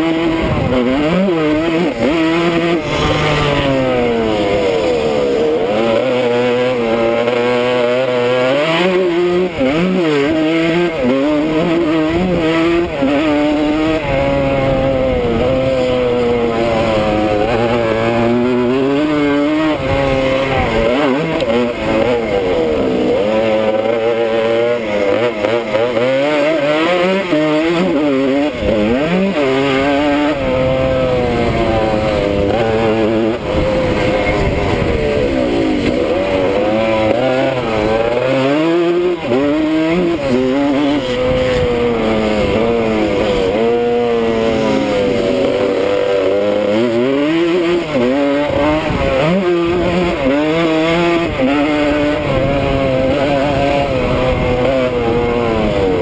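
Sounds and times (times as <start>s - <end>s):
motorcycle engine revving: 0.0s - 56.0s
wind noise on microphone: 0.1s - 6.1s, 9.5s - 23.2s, 27.5s - 56.0s.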